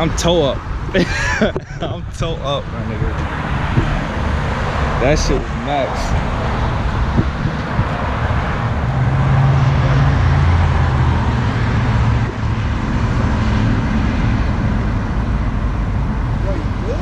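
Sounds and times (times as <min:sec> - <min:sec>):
car engine humming: 0:00.0 - 0:17.0
road traffic rumble: 0:00.0 - 0:17.0.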